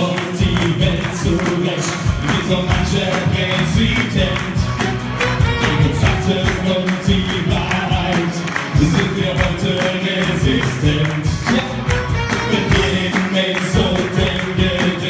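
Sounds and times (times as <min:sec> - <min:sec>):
music with steady beat: 0:00.0 - 0:15.0
voices singing: 0:00.0 - 0:15.0.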